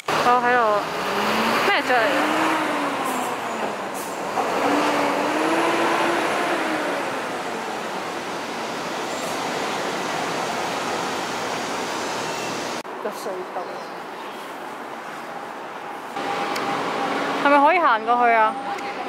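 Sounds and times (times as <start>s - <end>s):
distant city traffic: 0.0s - 19.0s.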